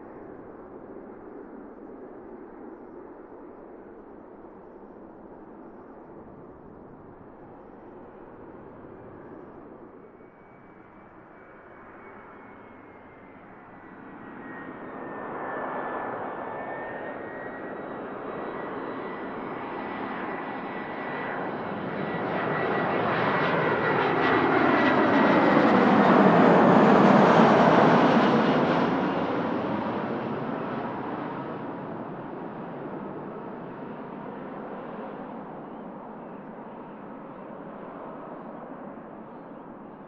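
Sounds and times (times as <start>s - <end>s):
high jet engine whine: 0.0s - 40.0s
jet airliner engine noise: 0.0s - 40.0s.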